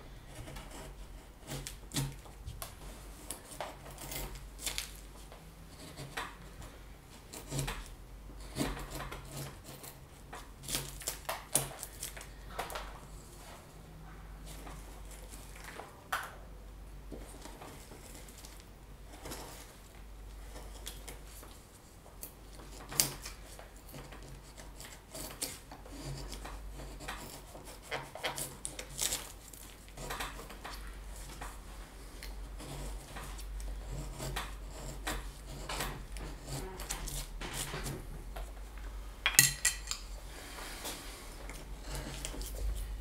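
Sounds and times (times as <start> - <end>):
knife carving wood: 0.1 - 13.1, 17.4 - 38.1, 41.4 - 43.0.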